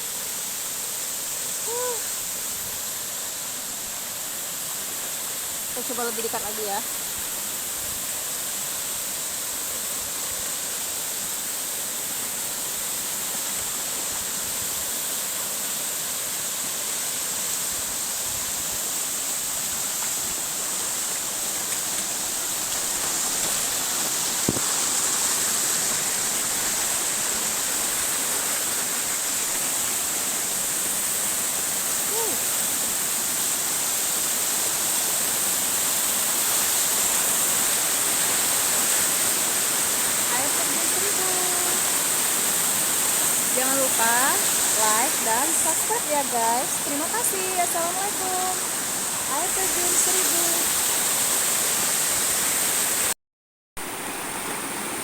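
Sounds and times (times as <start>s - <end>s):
waterfall rushing: 0.0s - 53.2s, 53.8s - 55.0s.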